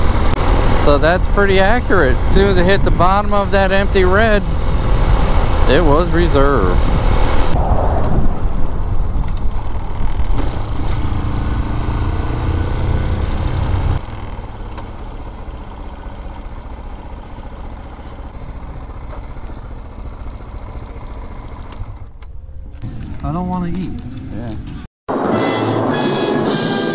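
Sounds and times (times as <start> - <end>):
motorcycle engine rumbling: 0.0 - 24.8
road noise: 0.0 - 26.9.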